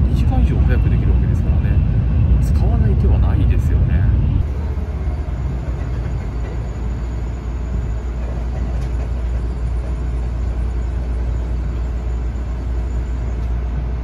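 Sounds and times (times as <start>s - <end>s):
train rumble and hiss: 0.0s - 14.0s.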